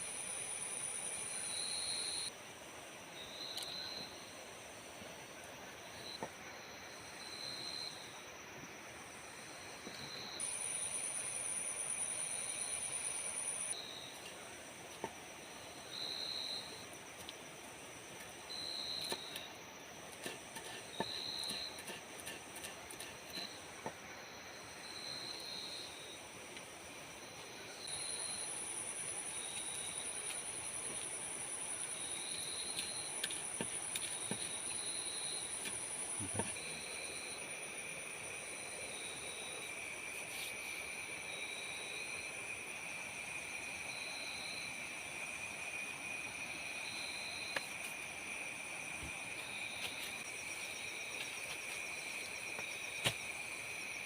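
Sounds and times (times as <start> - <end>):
crickets trilling: 0.0 - 2.4, 3.2 - 4.4, 5.6 - 54.0
background hiss: 0.0 - 54.0
insects buzzing: 6.0 - 54.0.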